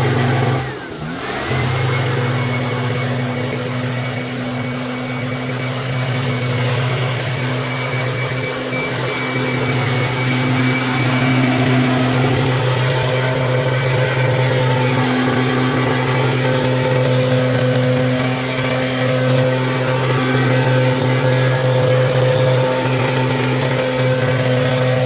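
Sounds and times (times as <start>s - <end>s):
leaf blower running: 0.0s - 25.0s.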